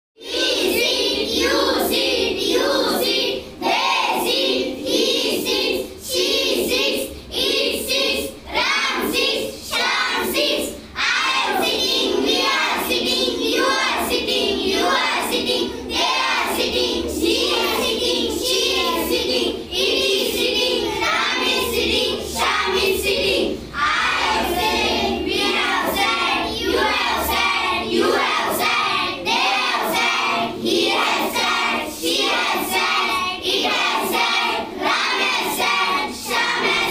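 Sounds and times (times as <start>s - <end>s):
children singing in unison: 0.2s - 36.9s.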